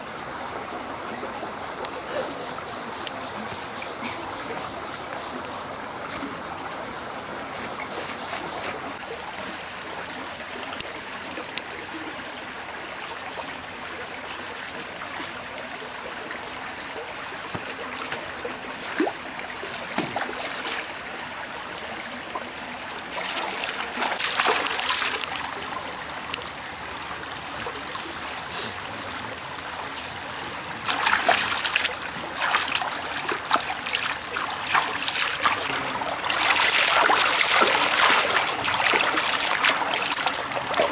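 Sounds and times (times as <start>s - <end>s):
forest stream trickling: 0.0s - 40.9s.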